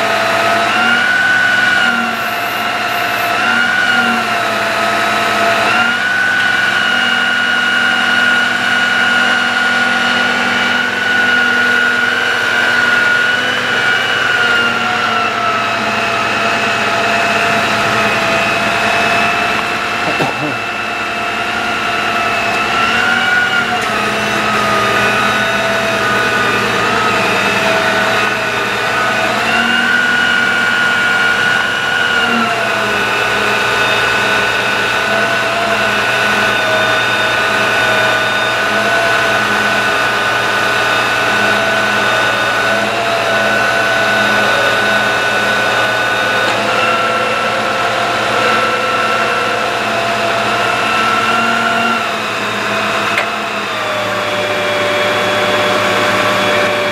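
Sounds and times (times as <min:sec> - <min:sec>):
hydraulic system mechanical whine: 0:00.0 - 0:56.9.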